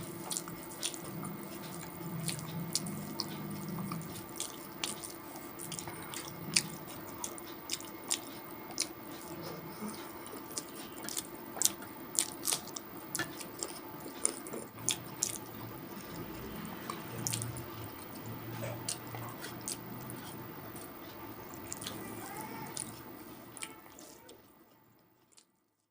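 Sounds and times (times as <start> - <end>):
wet chewing: 0.0 - 25.9.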